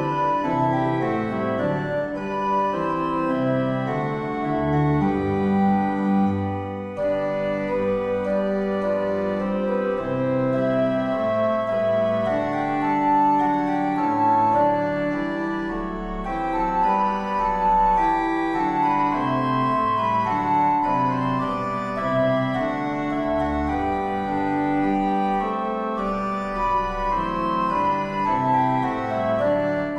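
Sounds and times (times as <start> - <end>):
organ playing sustained chords: 0.0 - 29.9.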